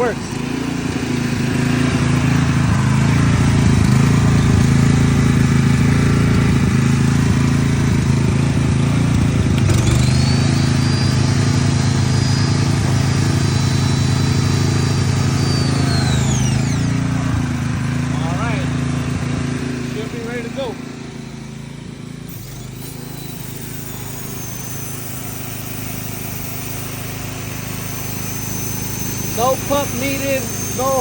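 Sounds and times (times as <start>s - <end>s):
generator running: 0.0s - 31.0s
pressure washer motor whine: 0.0s - 31.0s.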